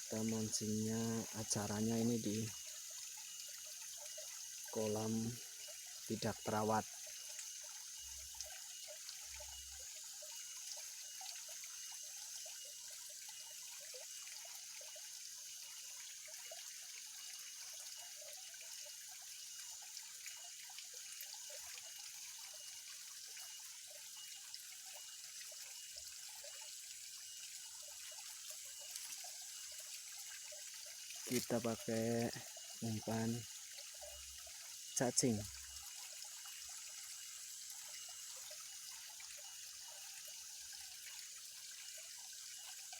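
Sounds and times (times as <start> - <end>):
water trickling and dripping: 0.0 - 42.9.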